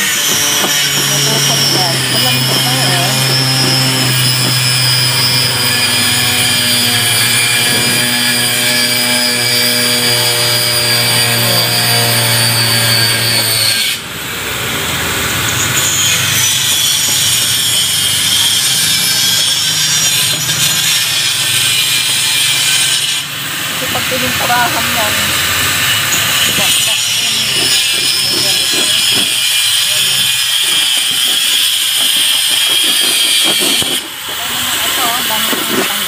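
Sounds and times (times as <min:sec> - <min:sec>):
metal scraper rasping on steel: 0:00.0 - 0:14.0, 0:15.5 - 0:36.0.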